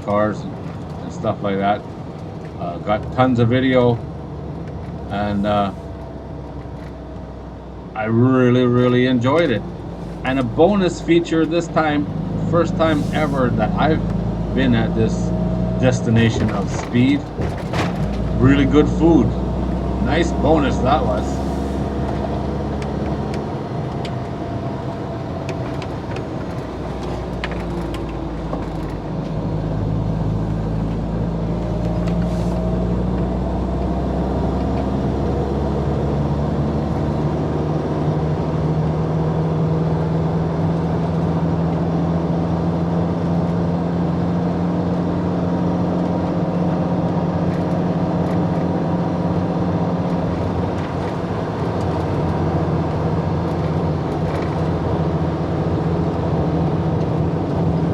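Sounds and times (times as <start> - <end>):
road rumble: 0.0 - 57.9
vehicle engine hum: 0.0 - 57.9.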